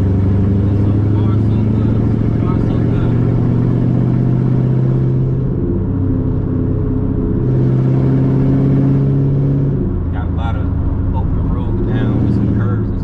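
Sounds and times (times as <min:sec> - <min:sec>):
car engine cruising: 0:00.0 - 0:13.0.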